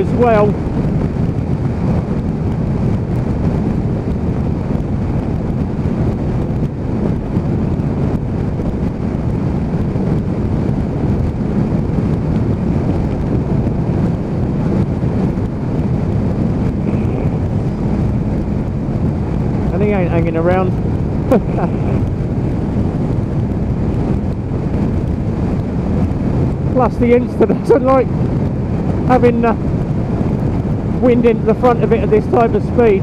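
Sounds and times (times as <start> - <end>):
motorcycle engine drone: 0.0 - 33.0
wind buffeting microphone: 0.0 - 33.0.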